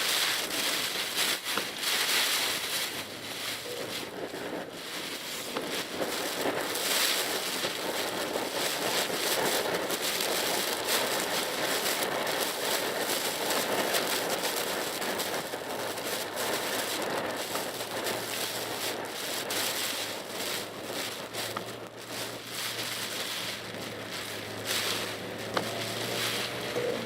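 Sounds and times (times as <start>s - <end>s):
crackle of raindrops: 0.0s - 27.0s
heavy rain and wet road noise: 0.0s - 27.0s.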